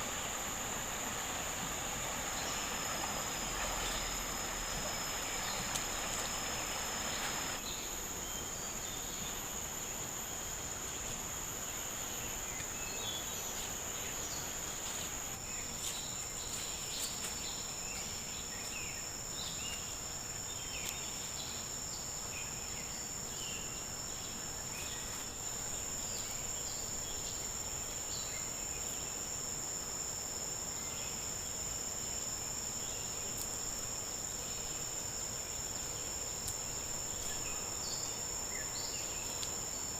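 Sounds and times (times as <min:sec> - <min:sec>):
insects droning: 0:00.0 - 0:39.9
short insect chirps: 0:00.0 - 0:39.9.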